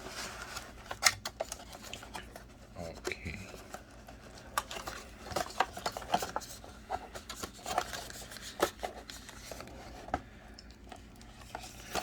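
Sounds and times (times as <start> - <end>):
packaging rustling and scraping: 0.0 - 10.2, 11.3 - 12.0.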